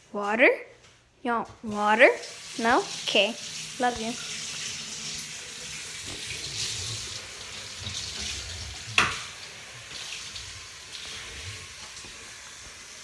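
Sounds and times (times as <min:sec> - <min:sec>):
water running and splashing: 0:01.7 - 0:13.0.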